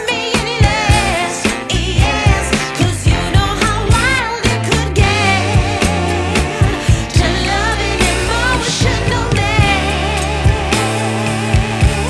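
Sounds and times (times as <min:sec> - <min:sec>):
pop song with female singer: 0:00.0 - 0:12.0.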